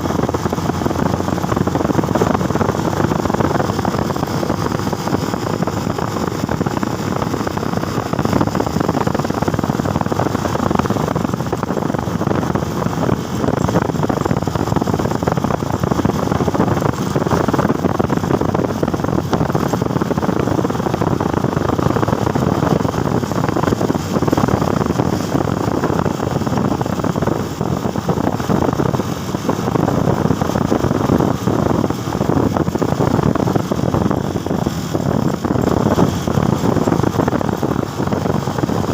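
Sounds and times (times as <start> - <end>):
motorcycle engine: 0.0 - 38.9
wind rush over microphone: 0.0 - 38.9.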